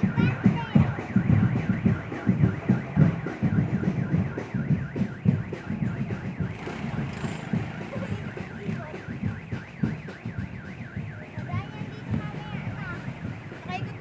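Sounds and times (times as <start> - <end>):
low drum beats: 0.0 - 14.0.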